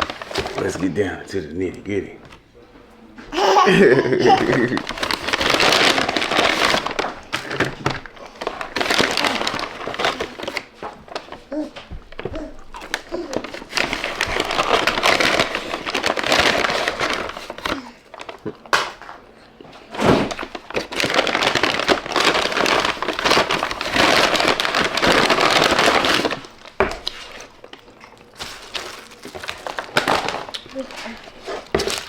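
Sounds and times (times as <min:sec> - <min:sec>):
food packaging rustling: 0:00.0 - 0:02.4, 0:03.3 - 0:32.0.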